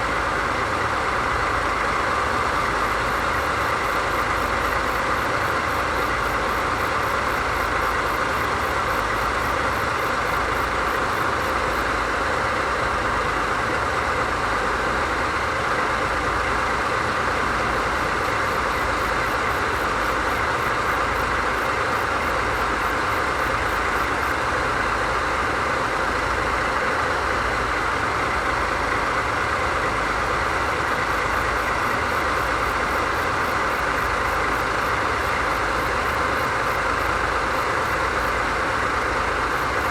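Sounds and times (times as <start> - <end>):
diesel locomotive engines idling: 0.0 - 39.9.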